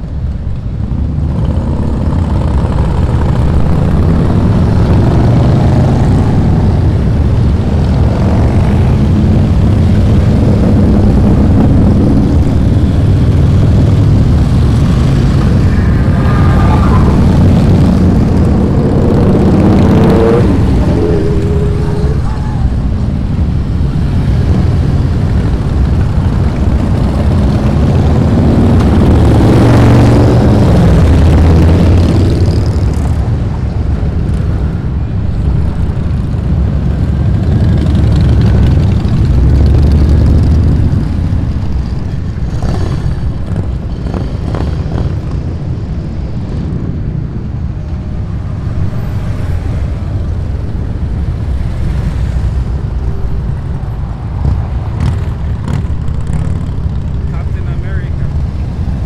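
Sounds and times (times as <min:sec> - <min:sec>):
motorcycle engines passing: 0:00.0 - 0:59.0.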